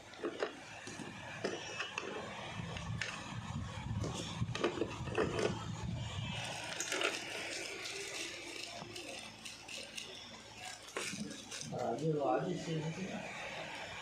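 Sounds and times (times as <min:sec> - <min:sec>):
packing materials scraping and rustling: 0:00.0 - 0:12.4.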